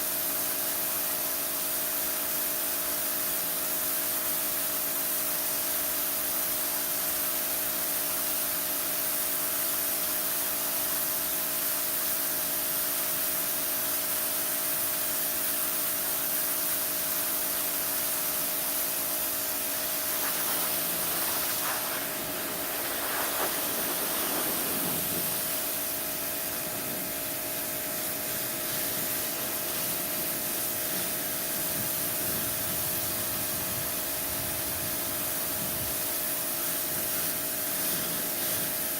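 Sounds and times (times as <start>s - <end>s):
motor and pump humming: 0.0s - 38.9s
pressure washer water jet hissing: 0.0s - 38.9s.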